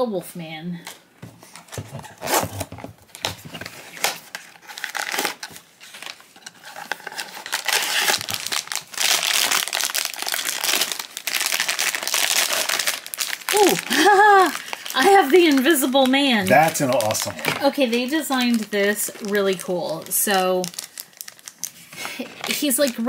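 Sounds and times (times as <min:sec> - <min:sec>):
foil bag crinkling: 0:03.1 - 0:23.0.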